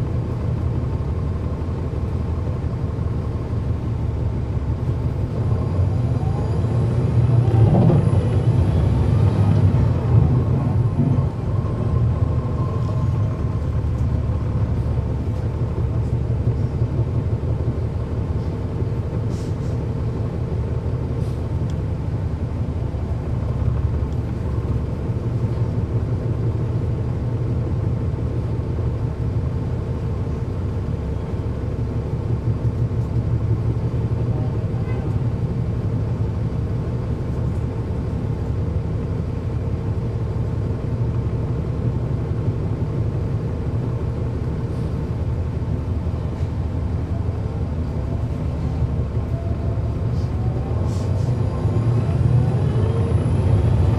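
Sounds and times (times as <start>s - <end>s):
bus diesel engine drone: 0.0s - 53.9s.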